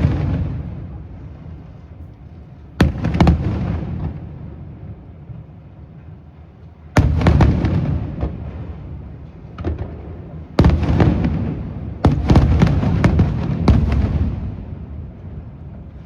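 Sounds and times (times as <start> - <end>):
fireworks crackling: 0.0 - 5.6, 6.8 - 16.0
fireworks booming: 0.0 - 6.2, 6.8 - 16.0.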